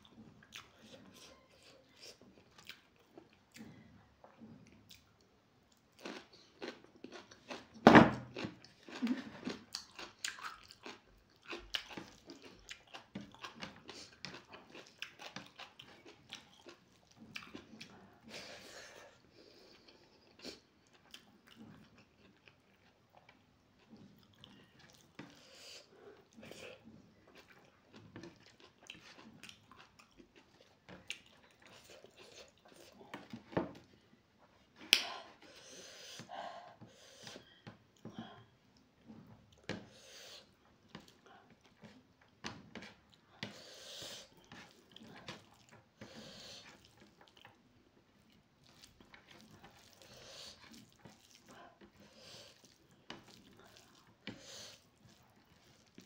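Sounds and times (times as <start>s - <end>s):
chewing with wet clicks: 0.0s - 18.4s, 19.4s - 35.1s, 37.2s - 56.0s.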